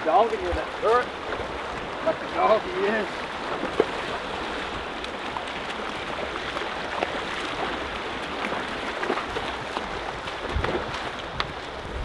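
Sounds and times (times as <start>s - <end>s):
river rushing over rocks: 0.0s - 12.0s
small water splashes: 0.0s - 12.0s.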